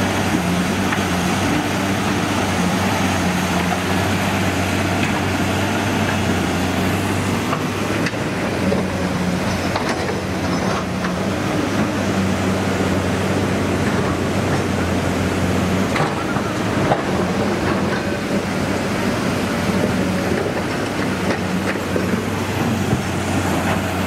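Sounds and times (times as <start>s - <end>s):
diesel engine running: 0.0s - 24.0s
river rushing: 0.0s - 24.0s.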